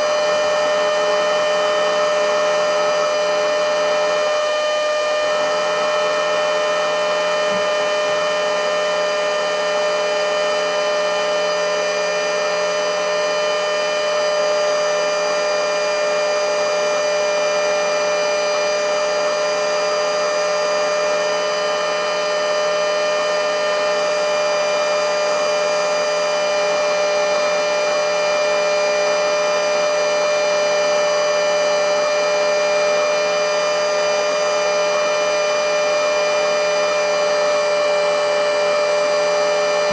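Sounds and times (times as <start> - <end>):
handheld vacuum motor whine: 0.0 - 39.9.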